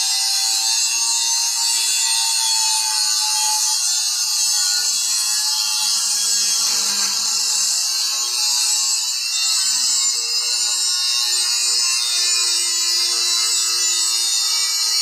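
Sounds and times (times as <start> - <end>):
angle grinder cutting metal pipe: 0.0 - 15.0.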